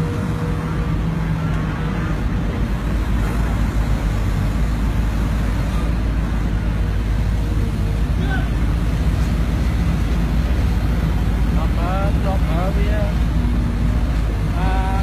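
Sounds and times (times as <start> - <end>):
excavator diesel engine drone: 0.0 - 15.0.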